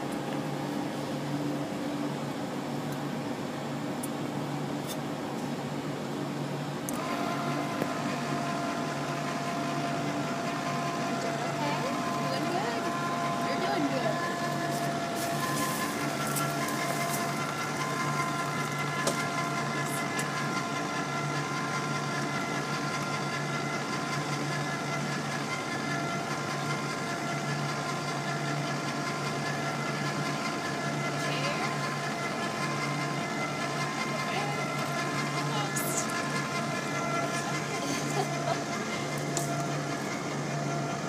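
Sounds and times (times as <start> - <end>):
motor humming with whine: 0.0 - 41.0.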